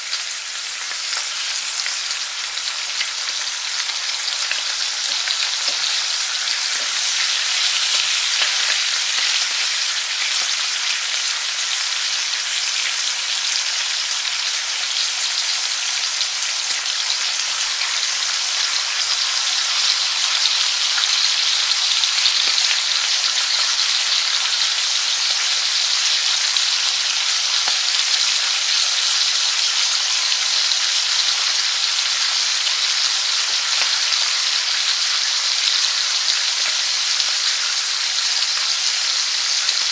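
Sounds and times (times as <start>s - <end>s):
food sizzling in frying: 0.0s - 39.9s.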